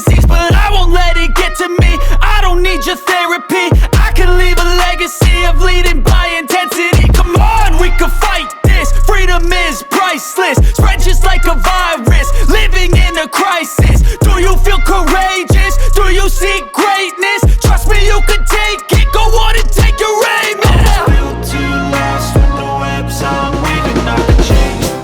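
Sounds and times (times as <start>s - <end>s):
hip hop music: 0.0s - 25.0s.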